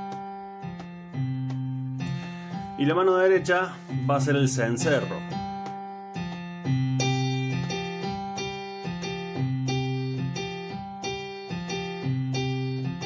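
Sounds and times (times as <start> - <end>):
electronic keyboard bass figure: 0.0 - 13.0
repeated keyboard chords: 0.0 - 13.0.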